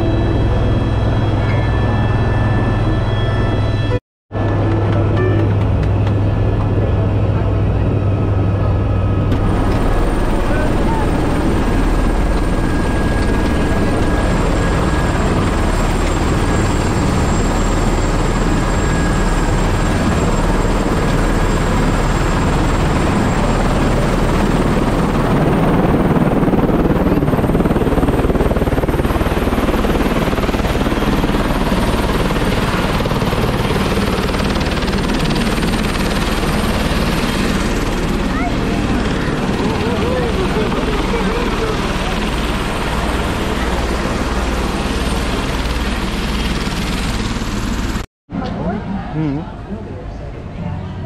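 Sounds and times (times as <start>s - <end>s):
helicopter turbine and rotor noise: 0.0s - 51.0s
high turbine whine: 0.0s - 51.0s.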